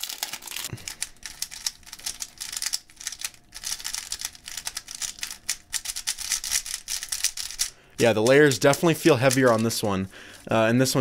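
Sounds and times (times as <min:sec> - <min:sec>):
puzzle cube plastic clicks: 0:00.0 - 0:09.7.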